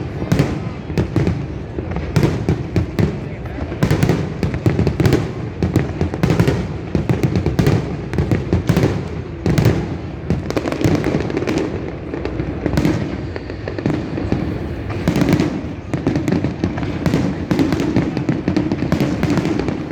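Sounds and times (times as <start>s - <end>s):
fireworks cracking and banging: 0.0s - 19.9s.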